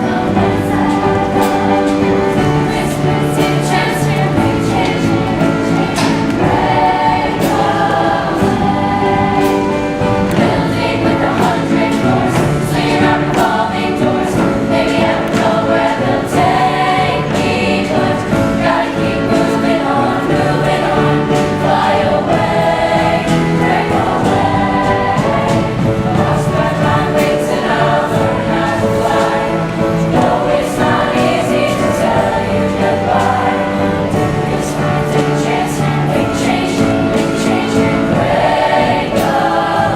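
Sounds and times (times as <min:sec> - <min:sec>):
choir singing with beat: 0:00.0 - 0:39.9.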